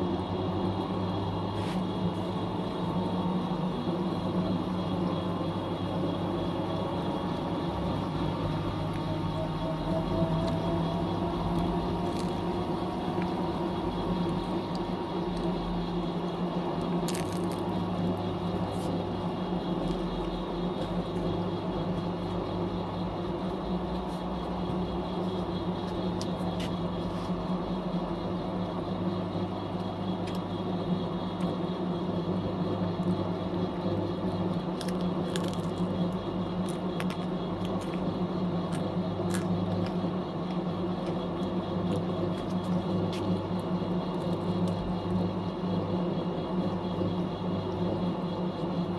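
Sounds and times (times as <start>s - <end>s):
washing machine motor hum: 0.0s - 48.9s.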